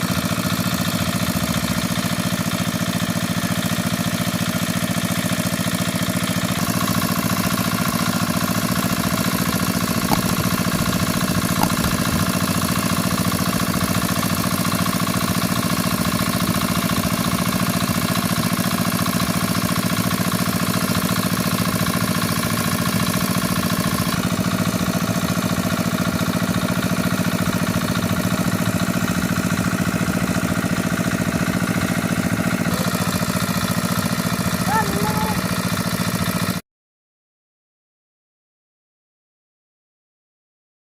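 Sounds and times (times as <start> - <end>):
engine idling: 0.0 - 36.5.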